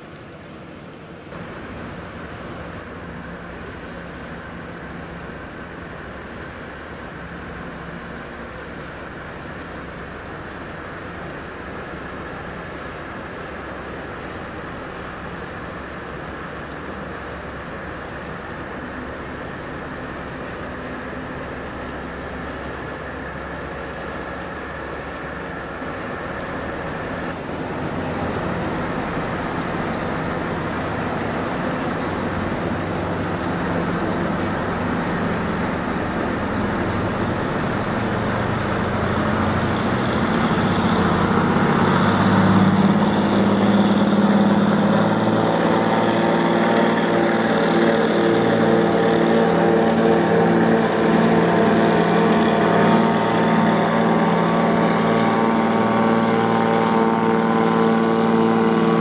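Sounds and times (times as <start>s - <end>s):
ferry engines humming: 0.0s - 59.0s
steady engine tones: 0.0s - 59.0s.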